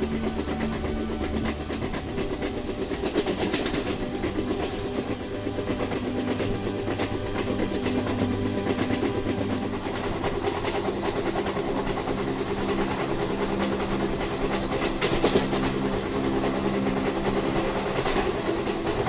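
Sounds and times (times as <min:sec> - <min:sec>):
train engine drone: 0:00.0 - 0:19.0
train wheels clicking on rails: 0:00.0 - 0:19.0.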